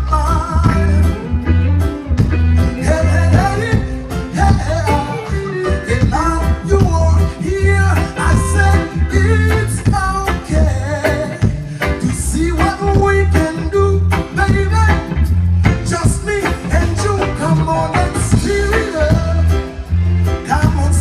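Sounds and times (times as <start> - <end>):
band playing reggae music: 0.0 - 21.0
heavy pulsing bass line: 0.0 - 21.0
person singing: 2.6 - 21.0.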